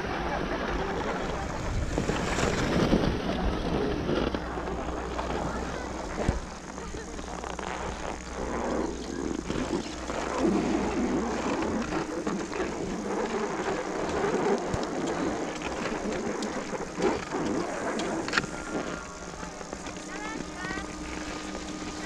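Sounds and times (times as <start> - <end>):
shuffling over packed snow: 0.0 - 22.0.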